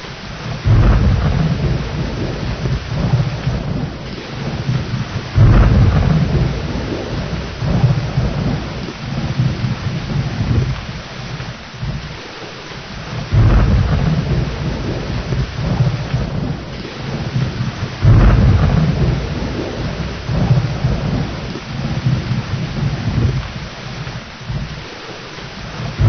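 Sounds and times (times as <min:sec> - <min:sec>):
heavy rain: 0:00.0 - 0:26.0
rolling thunder: 0:00.0 - 0:26.0.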